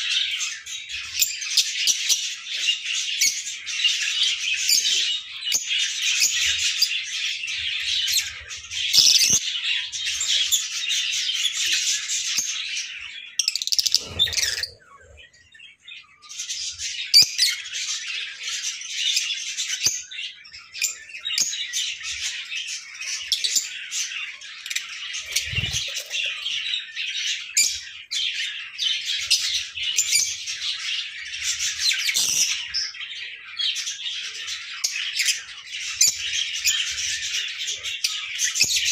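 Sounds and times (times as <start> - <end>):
lovebirds chirping and squawking: 0.0 - 38.9.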